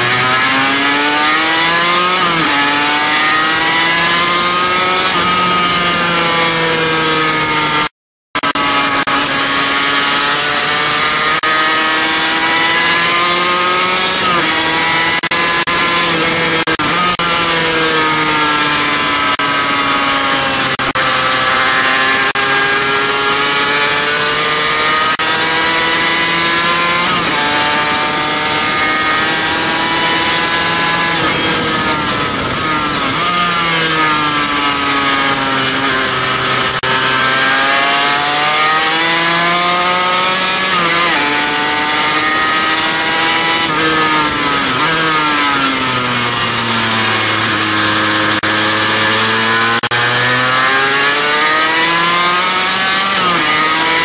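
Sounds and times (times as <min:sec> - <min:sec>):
wind and road noise: 0:00.0 - 0:54.0
car engine accelerating: 0:08.4 - 0:54.0.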